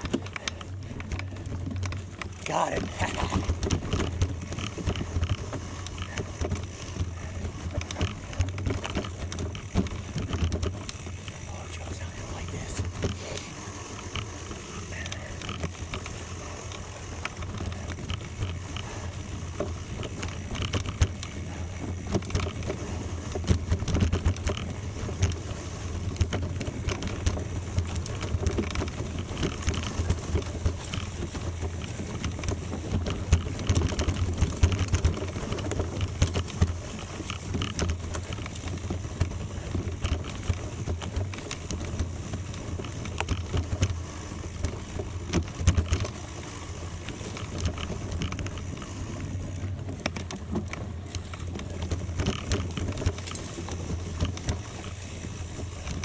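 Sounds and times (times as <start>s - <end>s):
bike tyres rolling on gravel: 0.0s - 56.0s.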